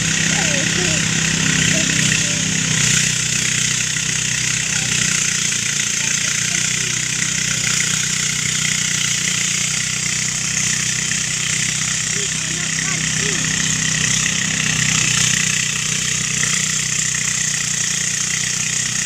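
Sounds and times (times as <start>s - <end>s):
threshing machine engine running: 0.0s - 19.0s.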